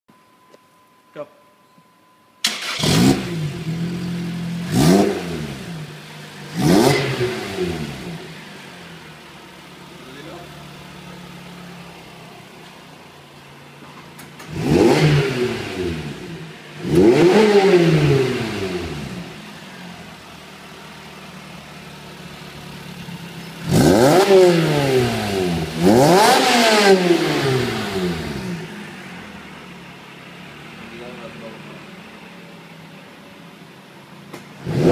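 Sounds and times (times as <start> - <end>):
car engine idling and revving: 2.4 - 34.9.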